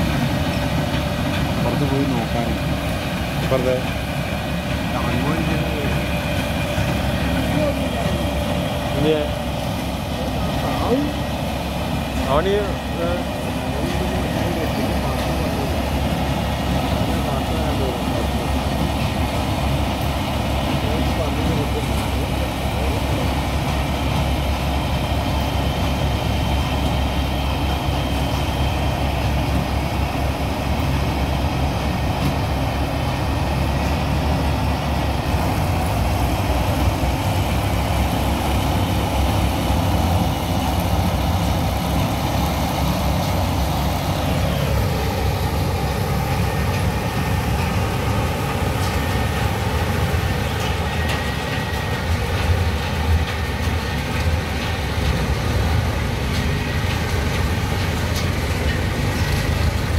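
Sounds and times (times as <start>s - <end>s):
combine harvester droning: 0.0s - 59.9s.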